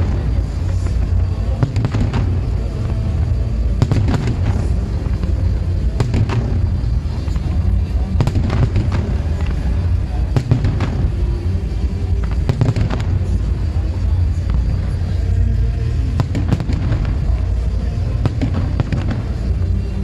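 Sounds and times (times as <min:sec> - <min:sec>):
firework bangs: 0:00.0 - 0:20.0
low rumble: 0:00.0 - 0:20.0
music playing: 0:00.0 - 0:20.0.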